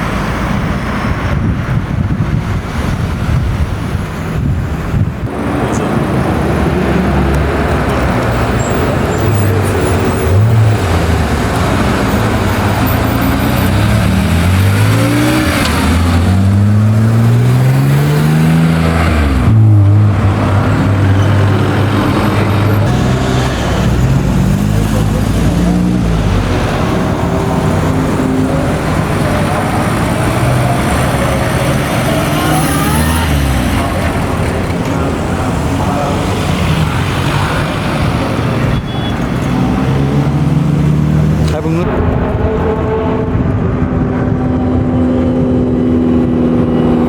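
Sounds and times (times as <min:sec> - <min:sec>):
car engines running: 0:00.0 - 0:47.0
engine revving: 0:05.2 - 0:47.0.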